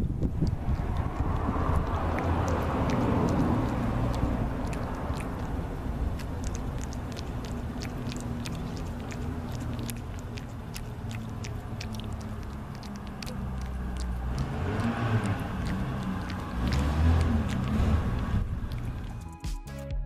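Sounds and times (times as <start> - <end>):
steady low rumble: 0.0 - 19.3
cat chewing and licking: 0.0 - 19.4.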